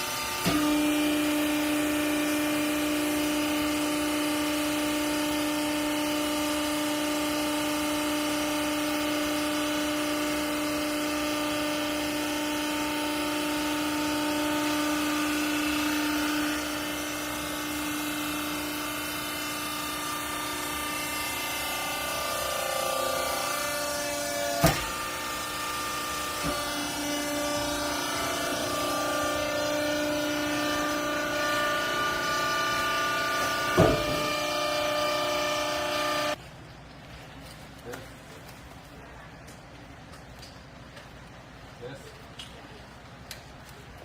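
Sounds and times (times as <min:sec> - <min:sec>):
hydraulic pump humming: 0:00.0 - 0:36.4.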